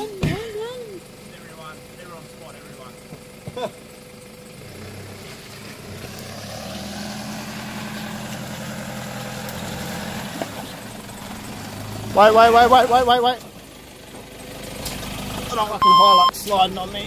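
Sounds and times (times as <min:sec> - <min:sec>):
truck engine under heavy throttle: 0:00.0 - 0:17.0.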